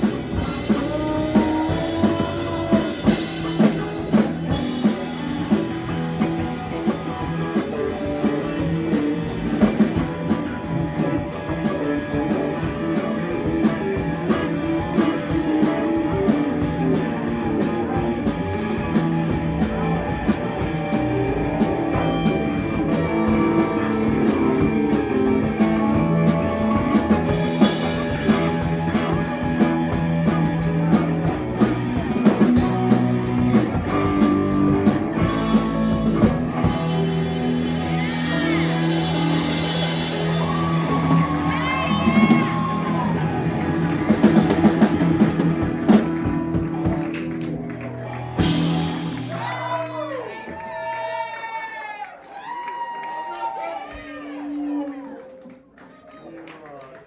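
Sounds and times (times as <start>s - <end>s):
drum kit beat: 0.0s - 49.9s
electric guitar: 0.0s - 50.2s.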